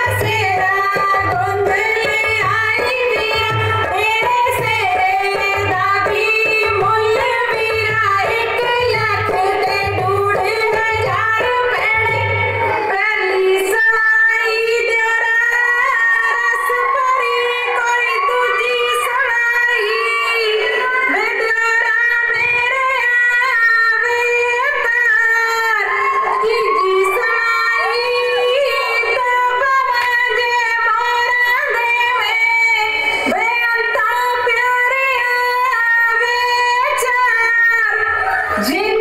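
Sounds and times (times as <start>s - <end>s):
women singing over loudspeakers: 0.0s - 39.0s.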